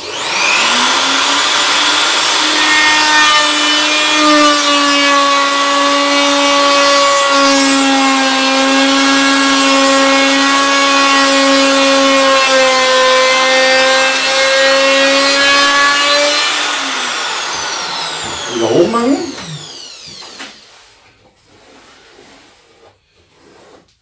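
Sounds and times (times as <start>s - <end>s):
router milling wood: 0.0s - 20.8s.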